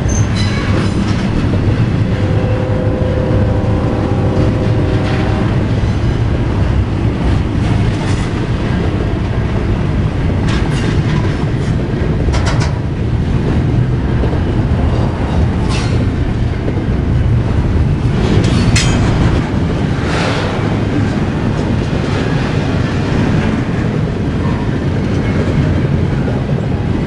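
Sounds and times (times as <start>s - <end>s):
freight train rumbling past: 0.0s - 27.0s
train cars clanking: 0.0s - 27.0s.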